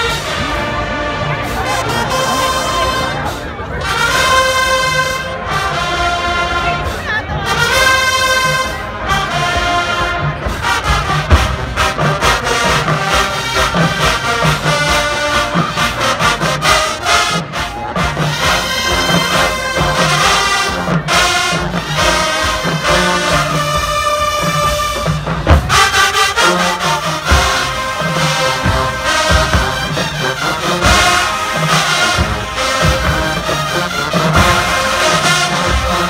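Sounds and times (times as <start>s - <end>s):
drums: 0.0s - 36.0s
marching band brass music: 0.0s - 36.0s.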